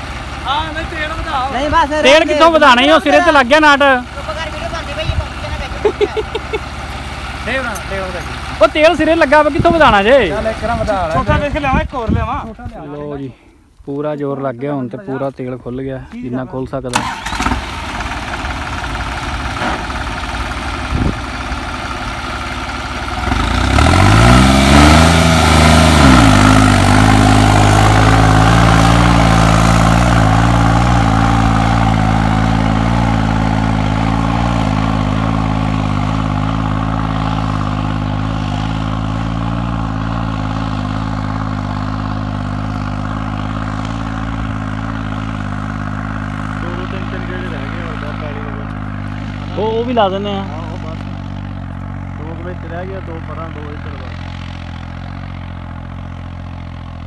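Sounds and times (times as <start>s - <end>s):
diesel tractor engine revving: 0.0s - 12.5s, 16.7s - 57.0s.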